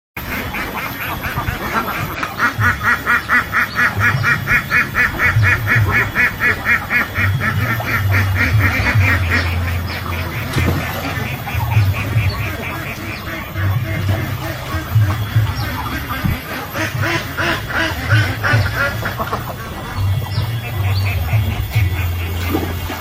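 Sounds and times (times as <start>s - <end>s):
ducks quacking: 0.2s - 23.0s.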